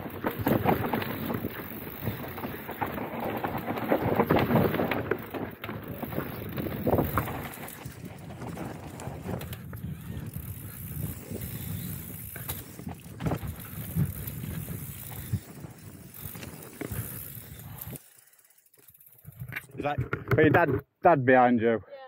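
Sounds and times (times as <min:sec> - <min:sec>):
tyres scrabbling on dirt: 0:00.0 - 0:18.0
bike rattling: 0:00.0 - 0:20.7.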